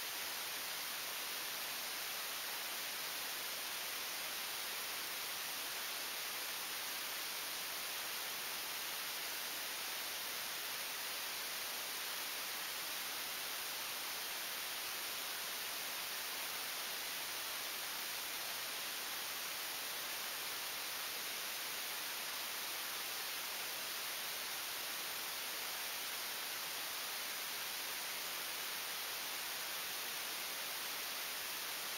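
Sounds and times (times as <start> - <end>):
static hiss: 0.0 - 31.9.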